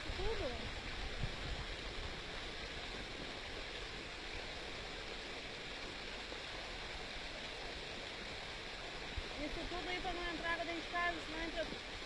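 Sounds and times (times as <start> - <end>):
rainwater rushing over ground: 0.0 - 12.0.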